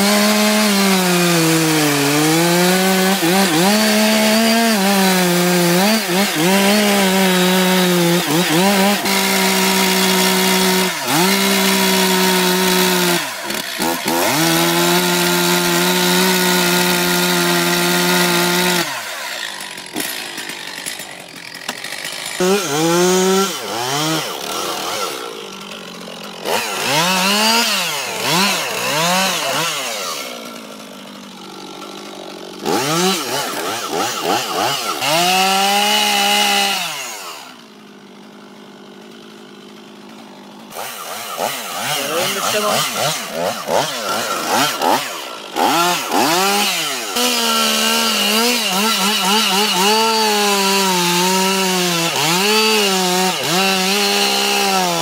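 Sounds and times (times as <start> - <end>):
chainsaw cutting tree: 0.0 - 55.0.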